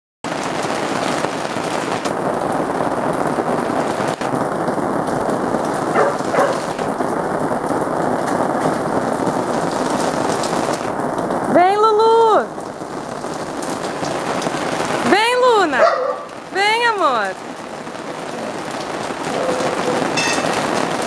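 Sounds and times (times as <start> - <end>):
heavy rain: 0.2 - 21.0.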